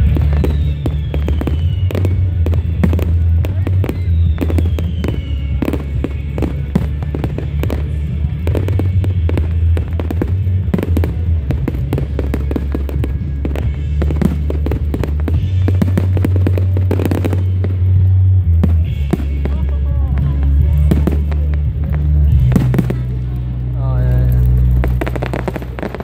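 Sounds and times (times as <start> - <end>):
fireworks bangs and crackles: 0.0 - 26.0
loud music with deep bass: 0.0 - 26.0.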